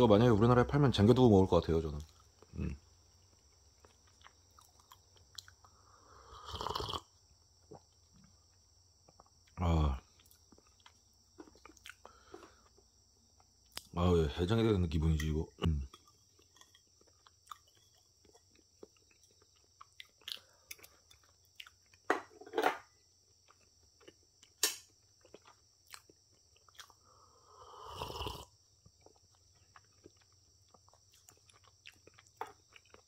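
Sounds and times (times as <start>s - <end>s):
person chewing cake: 2.0s - 13.9s, 15.2s - 22.1s, 22.9s - 33.0s.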